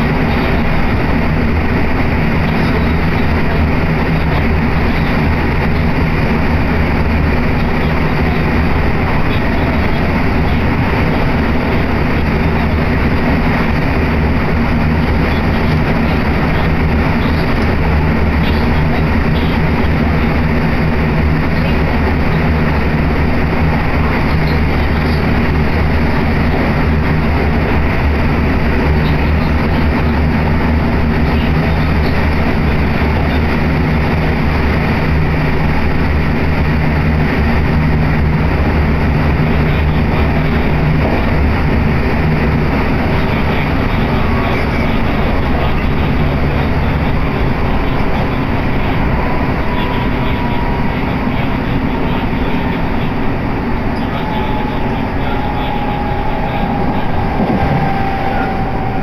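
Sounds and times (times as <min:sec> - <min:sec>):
low constant hum: 0:00.0 - 0:59.0
train wheels rumbling: 0:00.0 - 0:59.0.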